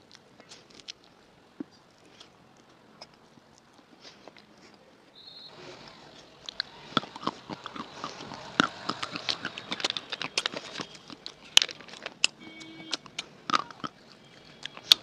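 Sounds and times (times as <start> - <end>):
chewing crunchy clay sticks: 0.0 - 4.9, 5.5 - 15.0.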